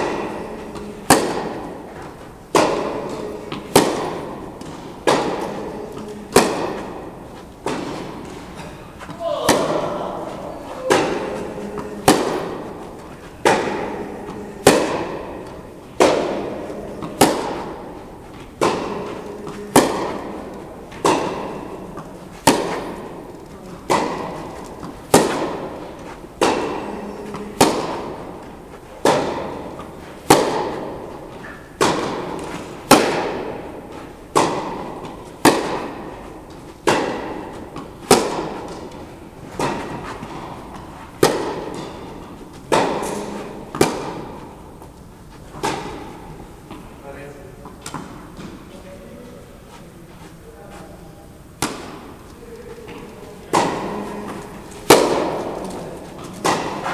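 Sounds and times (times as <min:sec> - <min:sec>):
tennis balls hit by rackets: 0:00.0 - 0:56.9.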